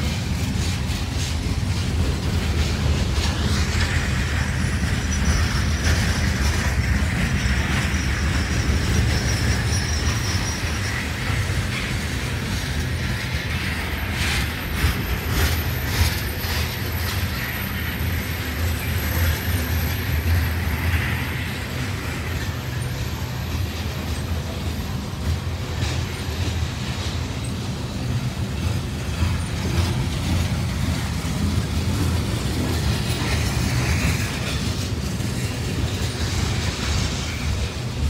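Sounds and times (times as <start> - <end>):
freight train wheels rumbling on rails: 0.0 - 38.0.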